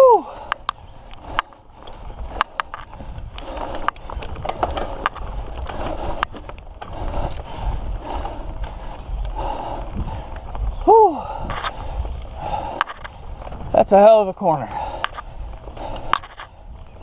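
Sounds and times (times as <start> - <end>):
bike clicks and rattles: 0.0 - 17.0
bike tyre rumble on dirt: 0.0 - 17.0.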